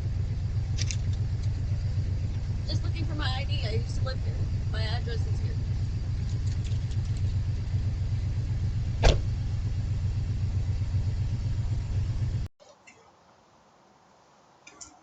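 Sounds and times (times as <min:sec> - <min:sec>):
vehicle engine idling: 0:00.0 - 0:12.5.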